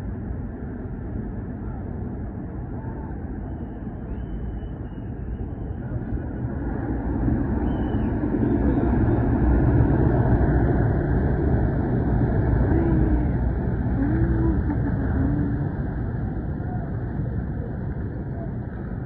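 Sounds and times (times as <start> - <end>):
rumble of churning mud and rock: 0.0 - 19.0.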